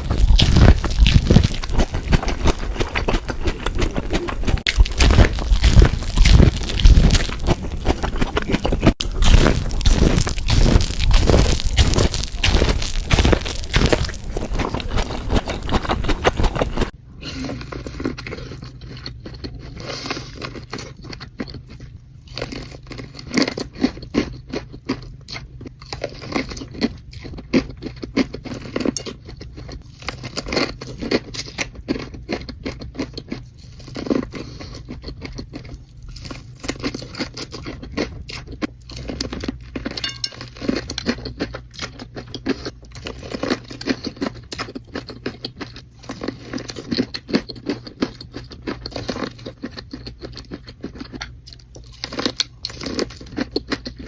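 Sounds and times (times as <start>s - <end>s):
crunchy chewing of corn: 0.0s - 54.0s.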